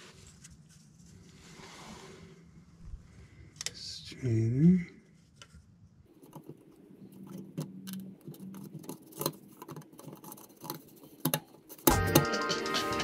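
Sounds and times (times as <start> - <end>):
faint steady hum: 0.0 - 12.2.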